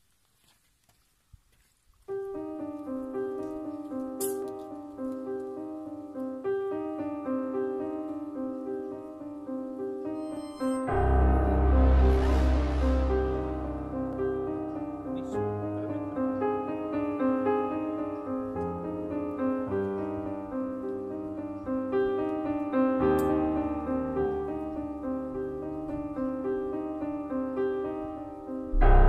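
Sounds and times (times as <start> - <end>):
piano music: 2.1 - 29.0.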